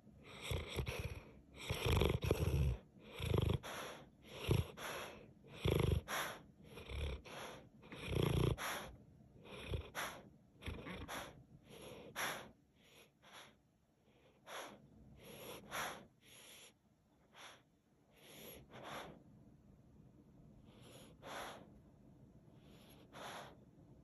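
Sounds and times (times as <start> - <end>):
dog breathing through nose: 0.2 - 19.3, 20.7 - 21.8, 22.6 - 23.7.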